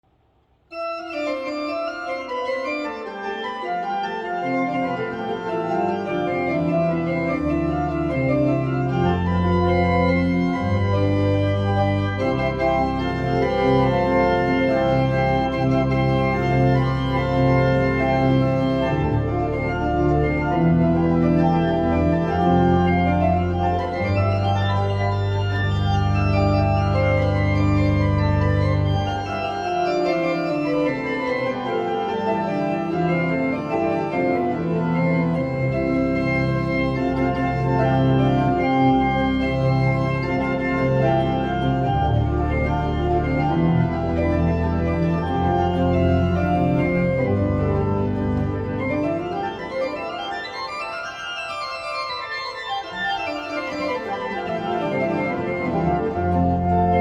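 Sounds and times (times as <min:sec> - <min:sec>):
church organ chords: 0:00.7 - 0:57.0.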